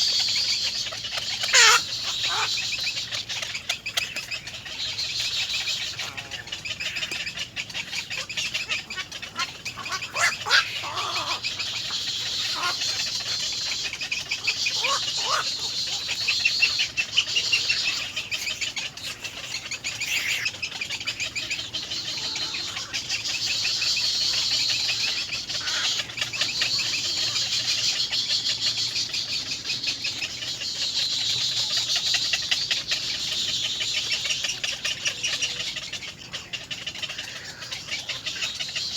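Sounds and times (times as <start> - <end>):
baby birds begging chatter: 0.0 - 38.9.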